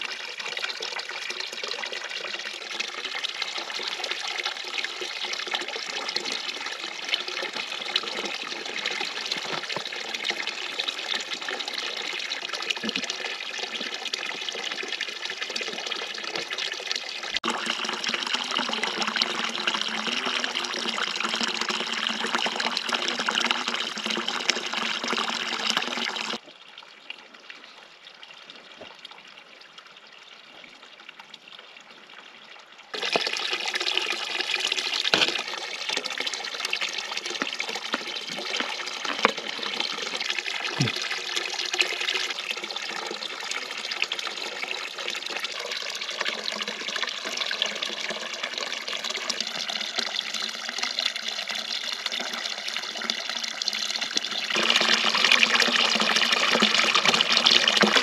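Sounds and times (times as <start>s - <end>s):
stream flowing water: 0.0s - 58.0s.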